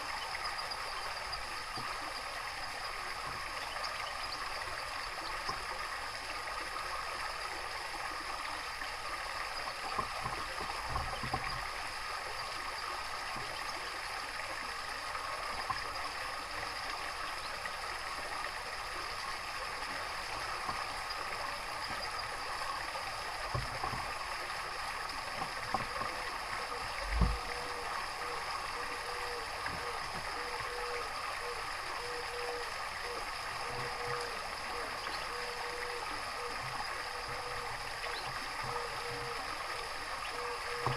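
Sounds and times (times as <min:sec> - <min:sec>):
running water of a stream: 0:00.0 - 0:40.9.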